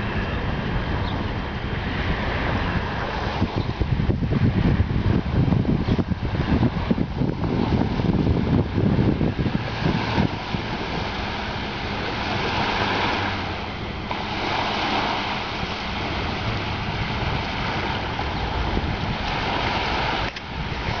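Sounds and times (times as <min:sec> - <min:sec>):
waves washing on shore: 0:00.0 - 0:21.0
wind rumbling on microphone: 0:00.0 - 0:21.0.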